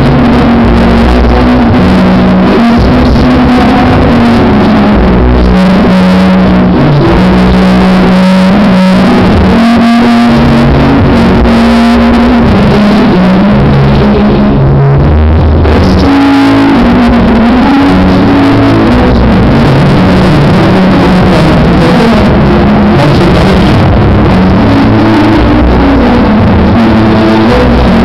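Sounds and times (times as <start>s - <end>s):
loud distorted dance music: 0.0s - 28.0s.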